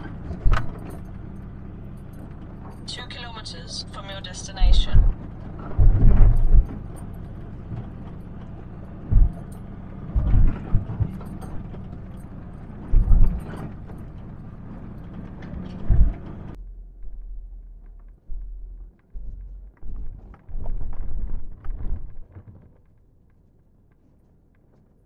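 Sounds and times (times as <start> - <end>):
truck engine droning: 0.0 - 22.3
truck thudding and rattling over bumps: 0.0 - 23.1.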